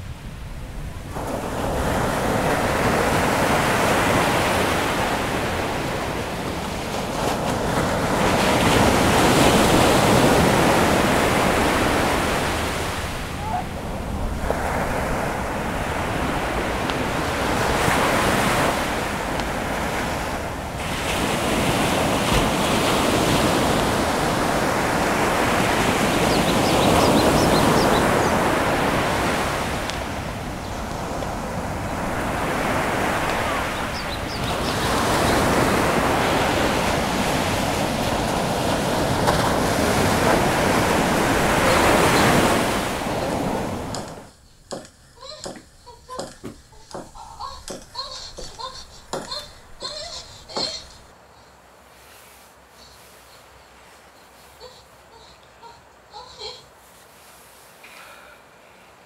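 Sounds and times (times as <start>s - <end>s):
sea waves breaking on shore: 0.0s - 58.3s.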